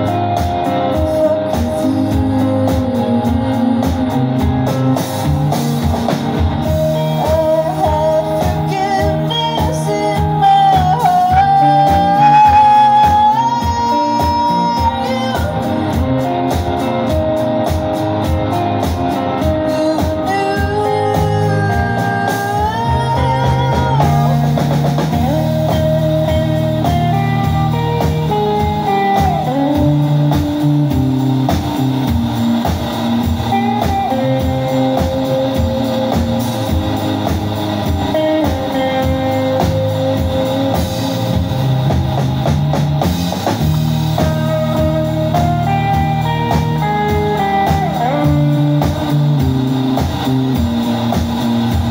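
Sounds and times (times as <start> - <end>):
bass guitar: 0.0 - 51.9
drum kit beat: 0.0 - 51.9
electric guitars: 0.0 - 51.9.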